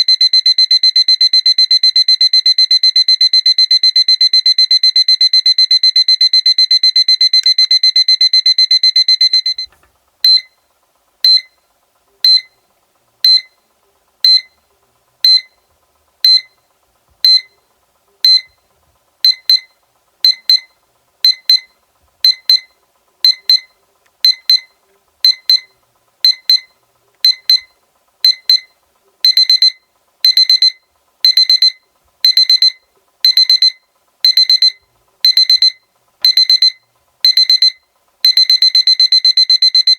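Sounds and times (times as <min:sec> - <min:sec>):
electronic alarm clock beeping: 0:00.0 - 0:10.6, 0:11.2 - 0:11.6, 0:12.2 - 0:12.6, 0:13.2 - 0:13.6, 0:14.2 - 0:14.6, 0:15.2 - 0:15.6, 0:16.2 - 0:16.6, 0:17.2 - 0:17.6, 0:18.2 - 0:18.5, 0:19.2 - 0:39.9.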